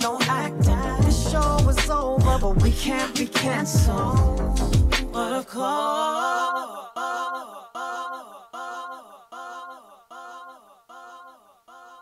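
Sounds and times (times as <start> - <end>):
echoing sung vocal note: 0.0 - 12.0.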